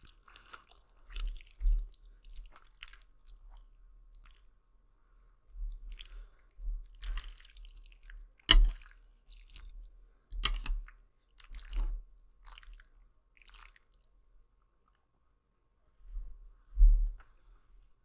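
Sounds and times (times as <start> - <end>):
chewing and wet mouth sounds: 0.0 - 15.1.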